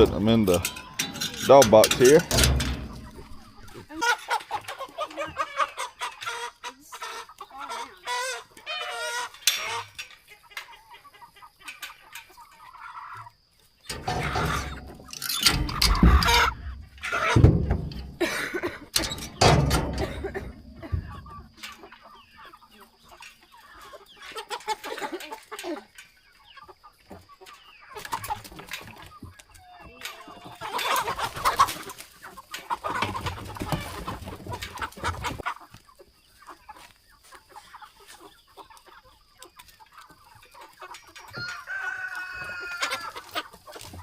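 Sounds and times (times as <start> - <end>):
chickens clucking and squawking: 0.0 - 44.0.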